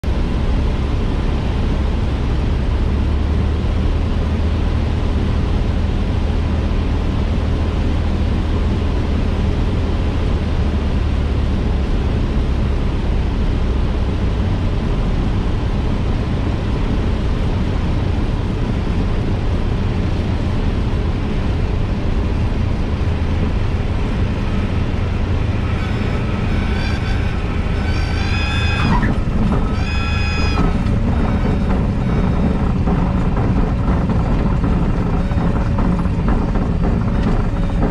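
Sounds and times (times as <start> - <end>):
light aircraft engine drone: 0.0 - 37.9.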